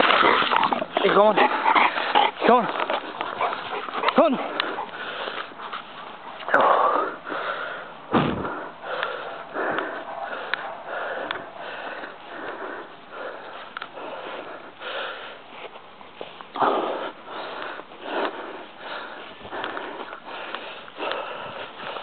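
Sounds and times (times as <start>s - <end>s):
heavy rhythmic breathing: 0.0s - 22.0s.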